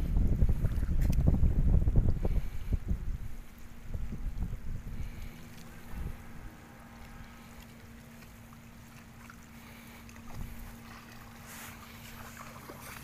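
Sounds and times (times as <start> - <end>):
wind rumble on microphone: 0.0 - 8.5, 9.7 - 13.0
faint hum: 0.0 - 13.0
water lapping: 0.0 - 13.0.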